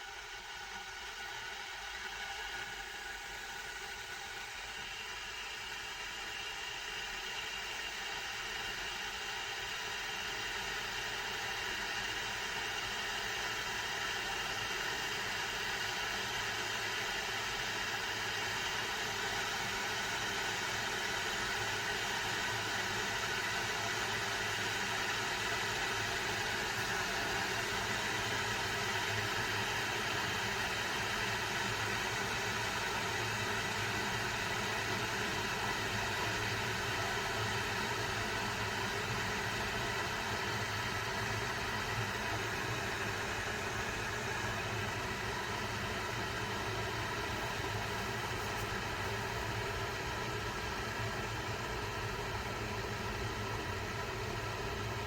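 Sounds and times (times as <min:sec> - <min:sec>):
electric kettle heating water: 0:00.0 - 0:55.0.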